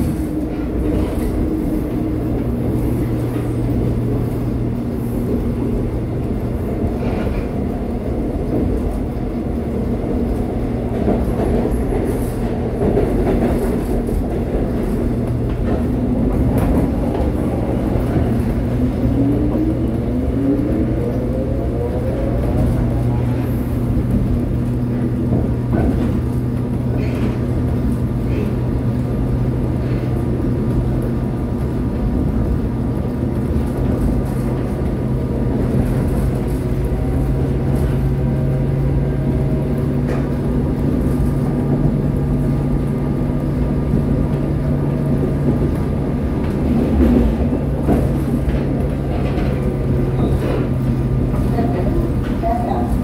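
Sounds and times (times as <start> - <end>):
electric train low hum: 0.0 - 53.0
wheel and rail rumbling: 0.0 - 53.0.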